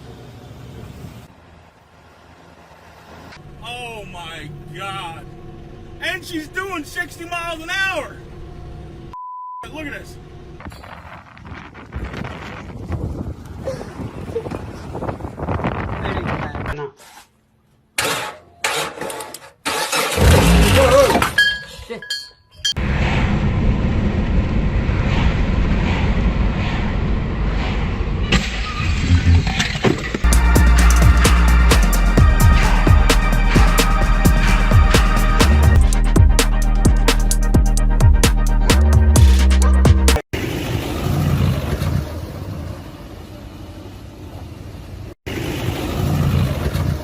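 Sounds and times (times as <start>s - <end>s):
car engine and tyre noise: 0.0s - 20.5s, 22.6s - 47.0s.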